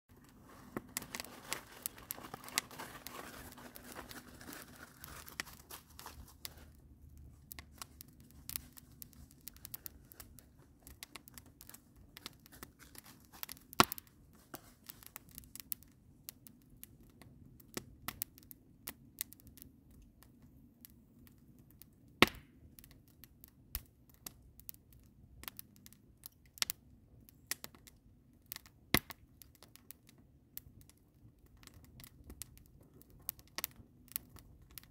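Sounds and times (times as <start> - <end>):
wood fire crackling: 0.1 - 34.9
loud fire snaps: 0.2 - 34.9.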